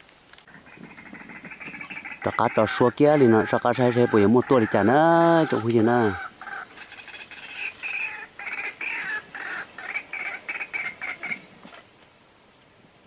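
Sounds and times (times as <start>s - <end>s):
bird calling repeated notes: 0.5s - 11.9s.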